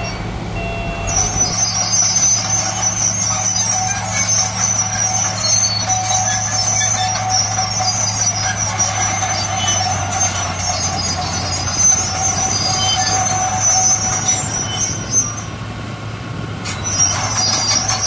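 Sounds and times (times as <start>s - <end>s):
high-pitched metallic squealing: 0.0s - 15.6s, 16.7s - 18.0s
heavy machine engine droning: 0.0s - 18.0s.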